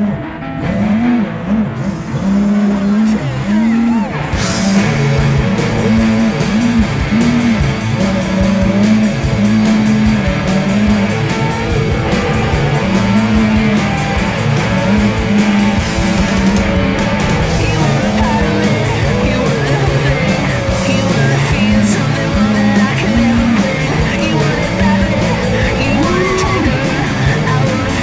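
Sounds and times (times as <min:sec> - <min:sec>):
fast rock music: 0:00.0 - 0:28.0.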